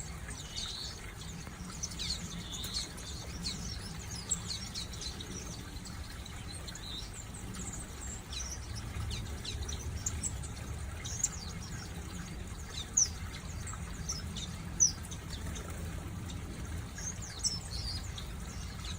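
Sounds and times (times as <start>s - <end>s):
small birds chirping: 0.0s - 18.9s
steady low rumble: 0.2s - 18.9s.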